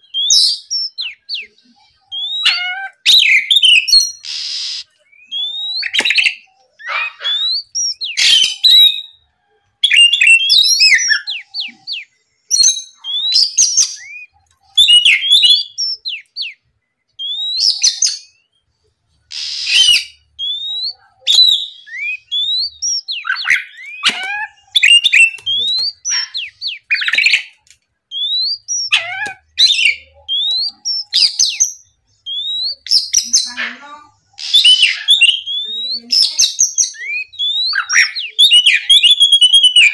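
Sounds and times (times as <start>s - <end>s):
bird singing whistles: 0.0s - 1.5s, 2.1s - 6.5s, 7.1s - 9.2s, 9.8s - 16.6s, 17.2s - 18.5s, 19.3s - 27.5s, 28.1s - 33.3s, 34.4s - 39.9s.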